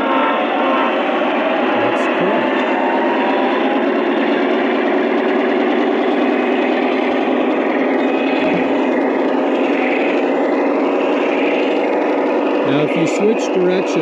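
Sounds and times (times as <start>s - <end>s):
model locomotive diesel engine sound: 0.0s - 14.0s.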